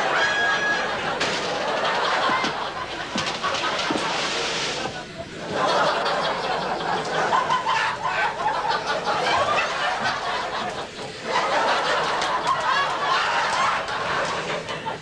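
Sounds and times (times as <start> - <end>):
laugh track crowd laughter: 0.0 - 15.0.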